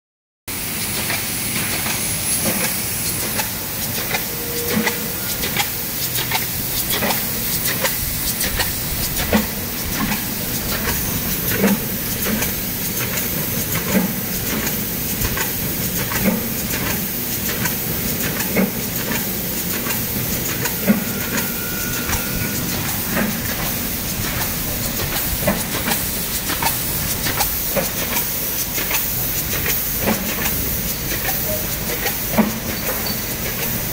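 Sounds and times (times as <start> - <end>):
machine belts and rollers whirring: 0.5 - 33.9.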